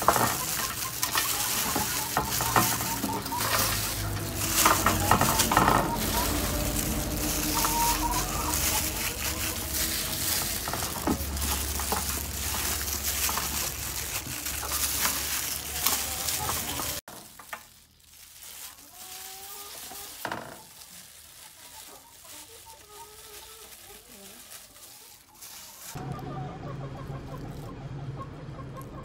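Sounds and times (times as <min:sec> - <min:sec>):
chickens clucking faintly: 0:00.0 - 0:17.1, 0:18.1 - 0:29.0
plastic gloves crinkling: 0:00.0 - 0:26.2, 0:27.0 - 0:27.7.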